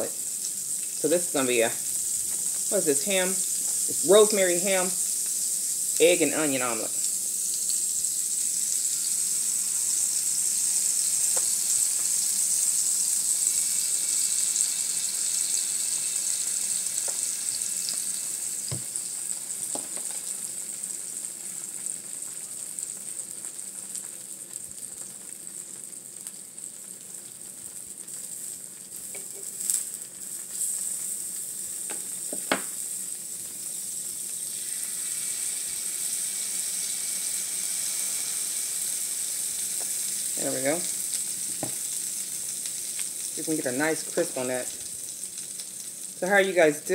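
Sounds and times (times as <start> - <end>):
batter sizzling on a griddle: 0.0 - 46.9.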